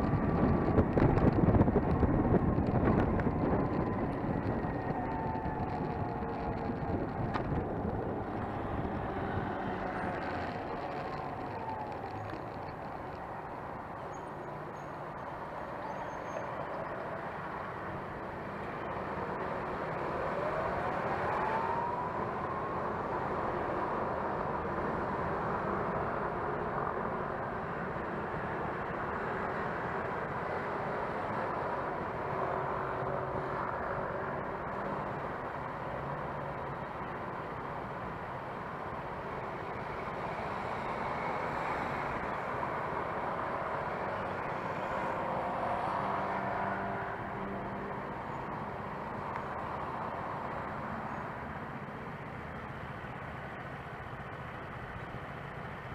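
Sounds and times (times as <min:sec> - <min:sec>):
city traffic noise: 0:00.0 - 0:55.9
electric scooter whine: 0:00.0 - 0:55.9.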